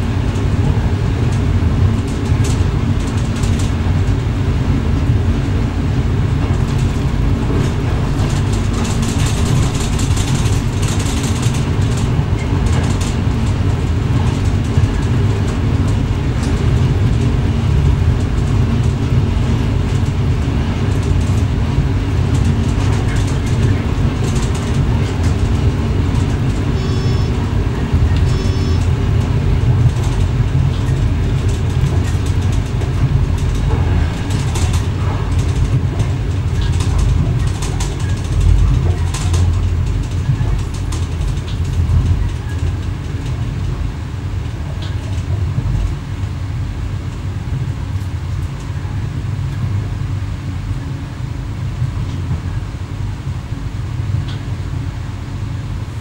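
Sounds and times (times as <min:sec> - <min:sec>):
low rumble of train wheels: 0:00.0 - 0:56.0.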